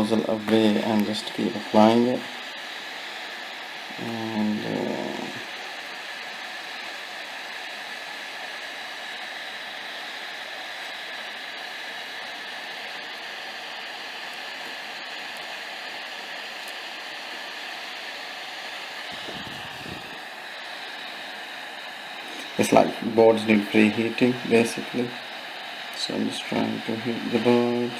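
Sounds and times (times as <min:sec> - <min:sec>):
hot air hissing: 0:00.0 - 0:27.9.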